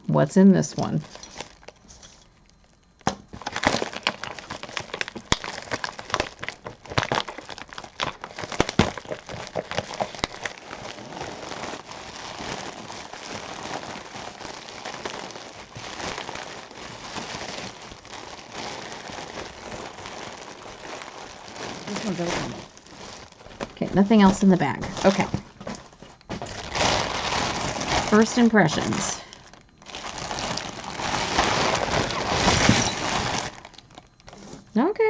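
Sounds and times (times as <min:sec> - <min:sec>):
plastic packaging crinkling: 0:00.7 - 0:34.8.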